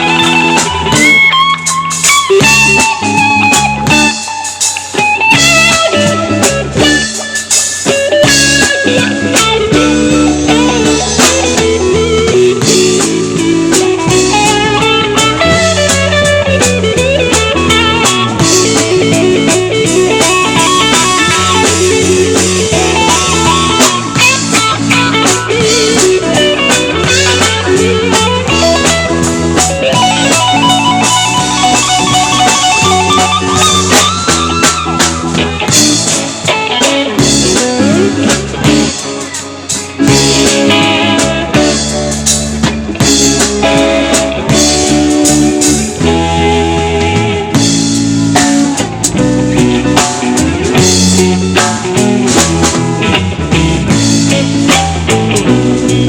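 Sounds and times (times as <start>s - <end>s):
bass line: 0.0s - 56.0s
drum kit beat: 0.0s - 56.0s
guitar: 0.0s - 56.0s.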